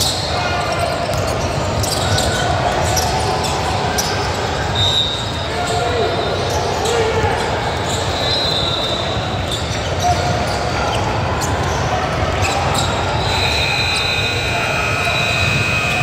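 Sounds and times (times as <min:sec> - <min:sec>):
murmur of spectators: 0:00.0 - 0:16.0.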